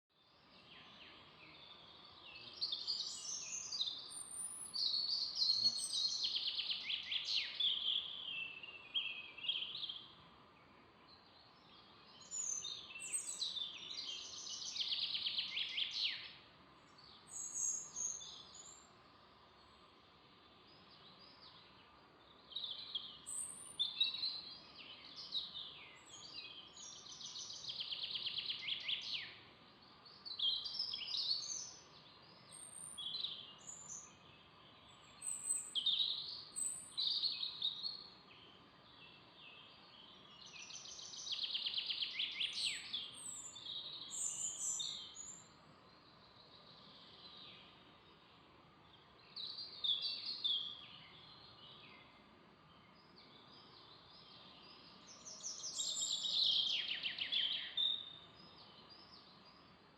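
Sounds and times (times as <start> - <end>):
songbirds chirping and trilling: 0.1 - 59.9
faint steady hiss: 0.2 - 59.9.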